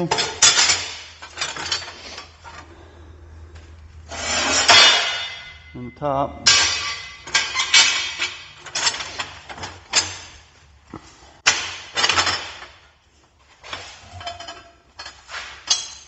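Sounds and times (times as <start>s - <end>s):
metal plates clanking: 0.0s - 2.7s, 4.1s - 10.6s, 11.4s - 12.8s, 13.6s - 16.0s.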